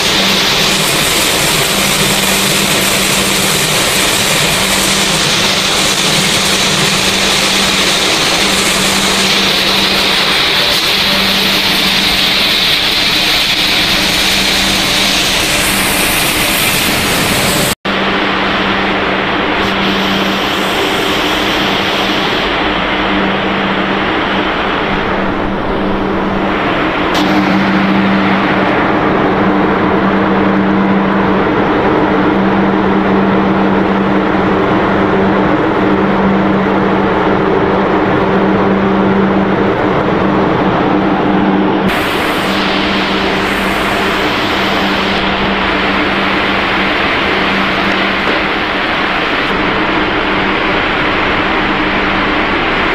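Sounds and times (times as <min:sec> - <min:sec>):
factory machinery humming: 0:00.0 - 0:52.9.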